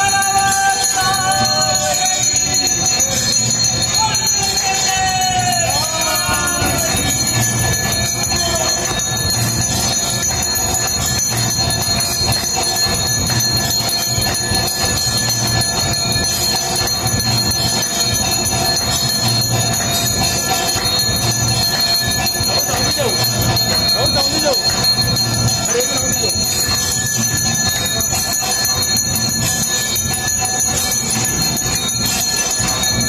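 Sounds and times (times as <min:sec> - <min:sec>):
temple bells clanging: 0:00.0 - 0:33.0.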